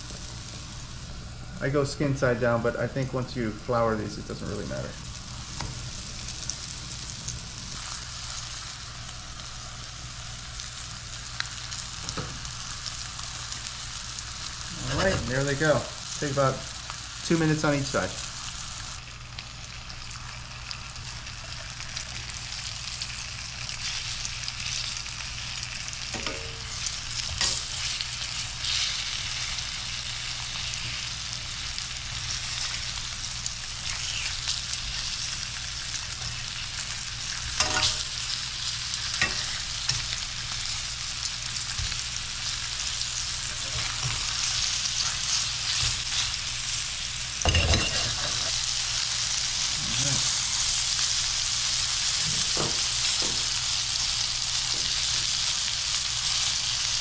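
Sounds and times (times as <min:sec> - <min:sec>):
fish frying in oil: 0:04.1 - 0:57.0.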